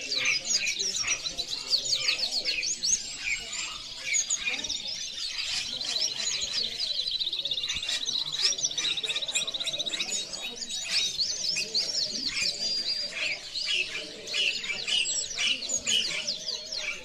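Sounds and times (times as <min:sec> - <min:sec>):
canaries singing and chirping: 0:00.0 - 0:17.0
rapid bird trill: 0:00.0 - 0:17.0.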